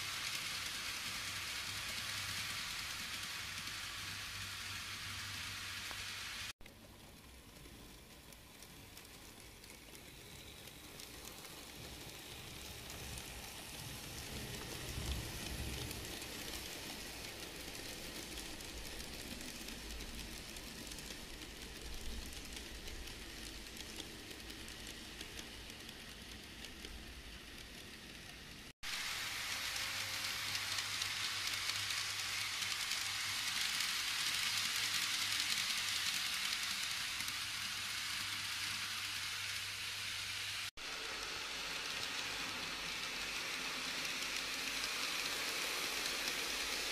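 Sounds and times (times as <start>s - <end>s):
model train wheels on rails: 0.0s - 46.9s.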